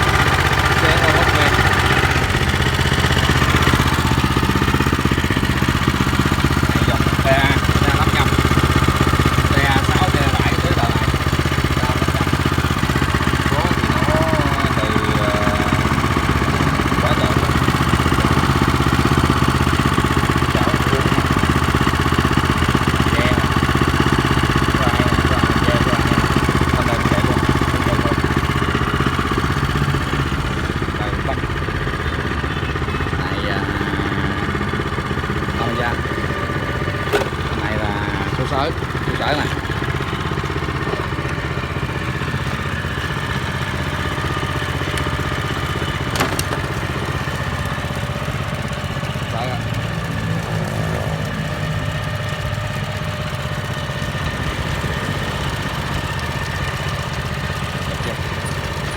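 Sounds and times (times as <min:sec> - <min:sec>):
tiller engine chugging: 0:00.0 - 0:58.9.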